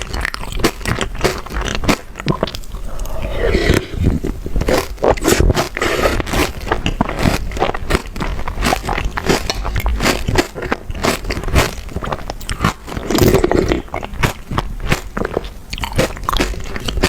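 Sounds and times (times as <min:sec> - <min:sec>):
person chewing crunchy chocolate: 0:00.0 - 0:17.0.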